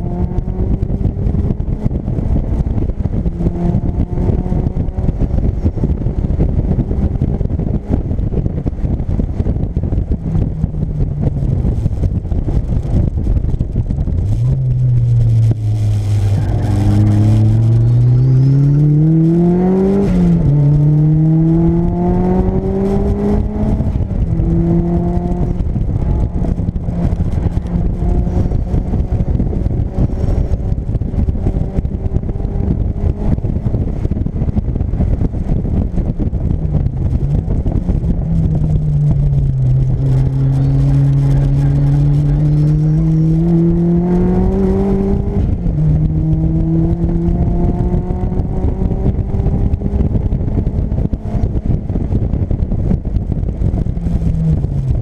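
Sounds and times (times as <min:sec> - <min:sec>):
car engine accelerating hard: 0:00.0 - 0:55.0
road rumble: 0:00.0 - 0:55.0
wind buffeting: 0:00.0 - 0:55.0.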